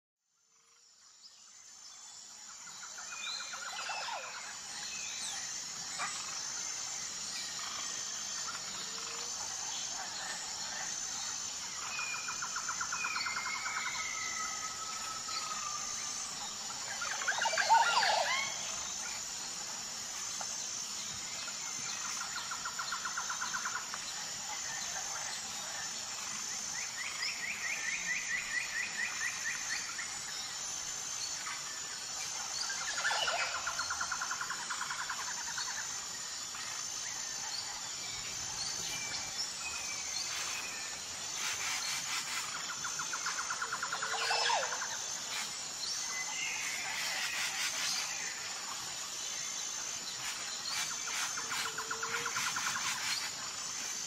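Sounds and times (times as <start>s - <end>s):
steady high-pitched hum: 0.5s - 54.0s.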